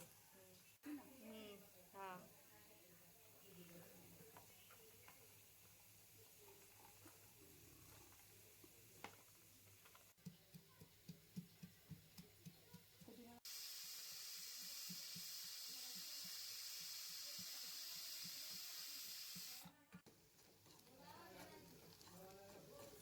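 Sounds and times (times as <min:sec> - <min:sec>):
spices frying in a pan: 0:00.0 - 0:23.0.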